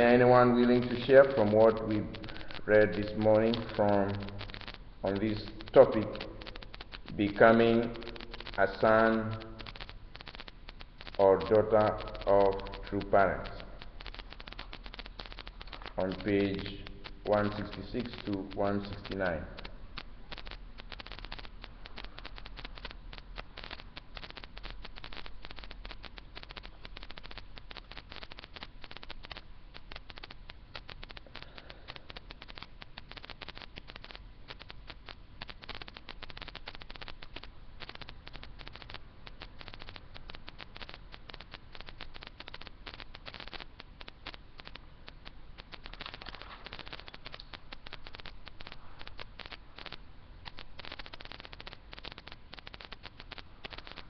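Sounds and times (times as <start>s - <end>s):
crackling static and hiss: 0.0s - 54.0s.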